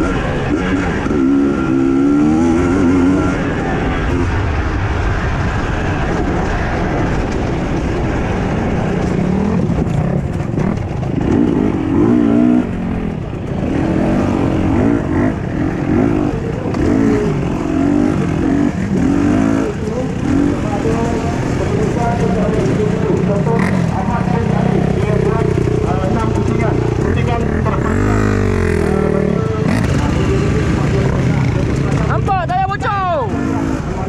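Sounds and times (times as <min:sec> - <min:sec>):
rushing noise: 0:00.0 - 0:32.8
motorcycle engine revving: 0:00.0 - 0:34.0.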